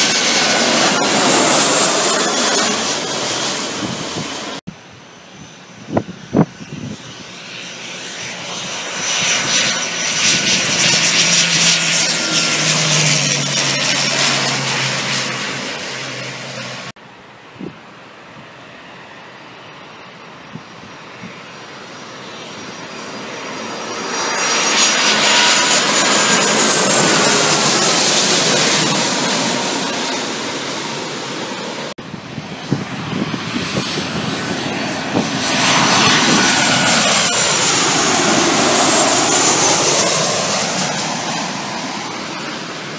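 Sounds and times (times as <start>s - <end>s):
jet airliner engine roar: 0.0s - 42.9s.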